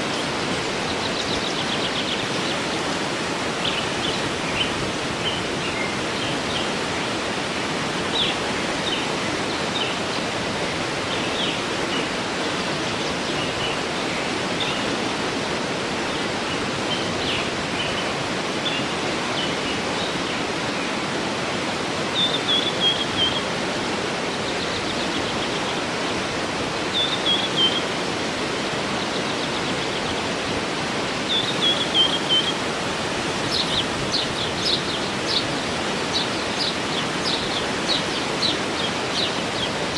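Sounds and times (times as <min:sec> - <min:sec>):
birds chirping: 0:00.0 - 0:21.0, 0:22.1 - 0:39.9
waterfall rushing: 0:00.0 - 0:39.9.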